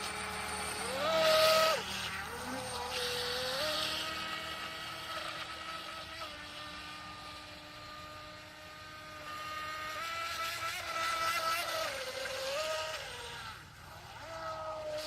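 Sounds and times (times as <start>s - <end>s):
model boat motor whining: 0.0s - 15.0s.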